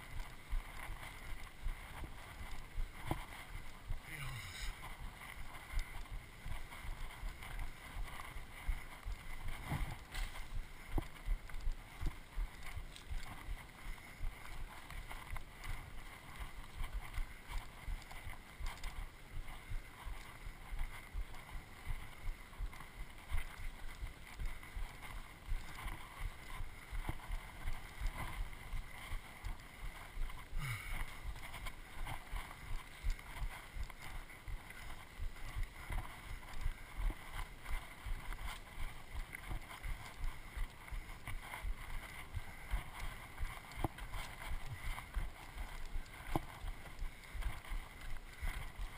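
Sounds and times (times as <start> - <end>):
footsteps on dirt trail: 0.0 - 48.9
low rumbling wind: 0.0 - 48.9.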